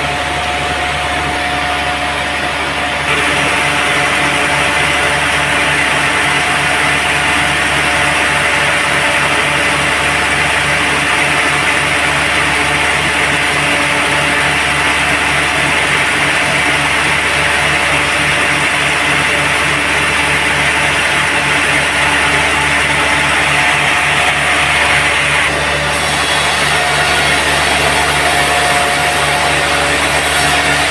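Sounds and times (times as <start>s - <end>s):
sawmill machinery throbbing: 0.0s - 30.9s.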